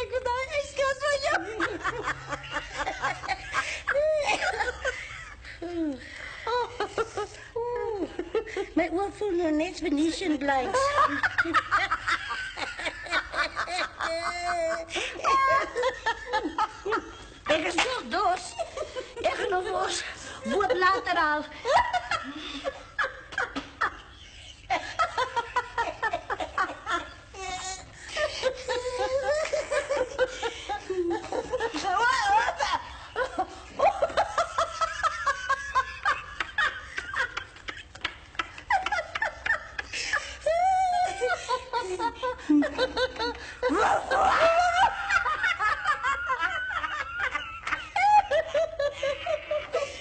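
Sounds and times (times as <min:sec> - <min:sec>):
woman laughing: 0:00.0 - 0:08.8, 0:10.4 - 0:50.0.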